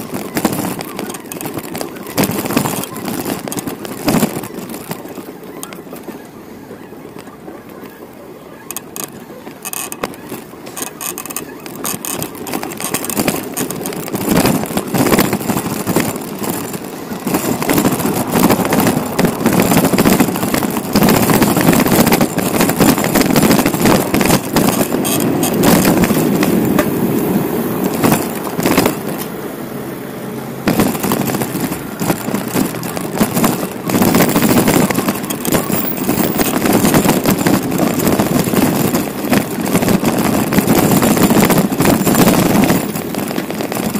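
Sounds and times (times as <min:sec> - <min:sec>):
city traffic: 0:00.0 - 0:43.9
wind rushing on microphone: 0:00.0 - 0:43.9.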